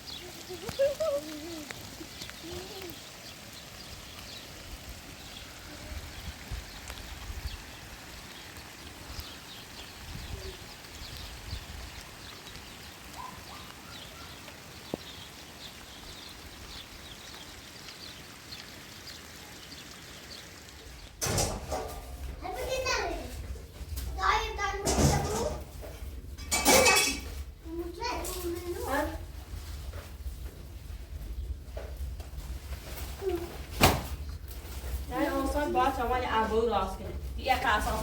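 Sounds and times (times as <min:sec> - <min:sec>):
heavy rain dripping: 0:00.0 - 0:38.0.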